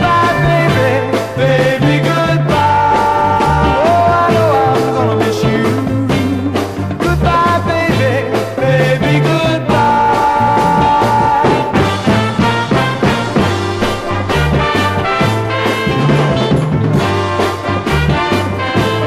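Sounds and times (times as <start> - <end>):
soul music with full band: 0.0 - 19.0.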